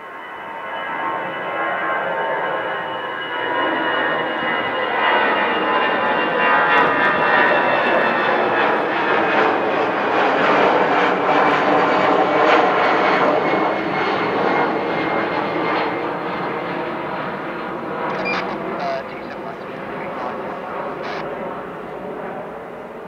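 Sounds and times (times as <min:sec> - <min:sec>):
jet engines with high whine: 0:00.0 - 0:23.0.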